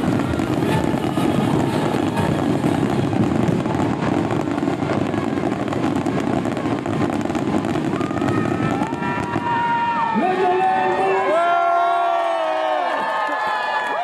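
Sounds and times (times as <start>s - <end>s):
fireworks rumble: 0.0s - 12.2s
fireworks crackling: 0.0s - 13.8s.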